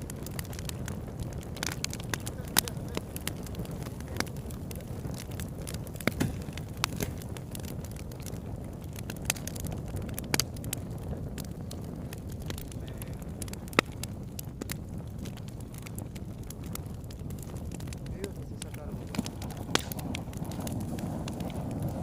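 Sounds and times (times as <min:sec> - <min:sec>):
campfire flames rushing: 0:00.0 - 0:22.0
fire crackles and pops: 0:00.0 - 0:22.0.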